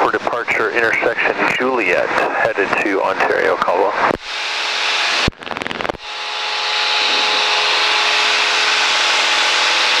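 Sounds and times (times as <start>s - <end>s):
aircraft engine and propeller: 0.0s - 10.0s.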